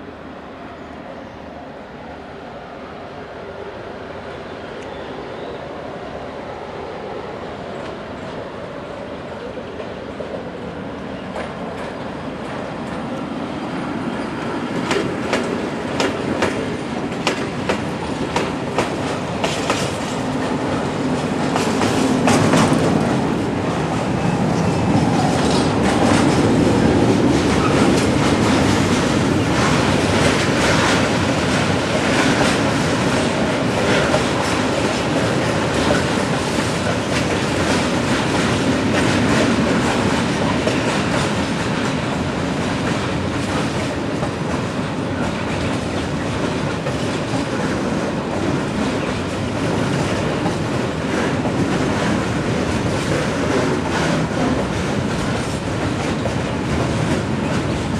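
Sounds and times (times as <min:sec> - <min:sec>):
freight train rumbling past: 0:00.0 - 0:57.9.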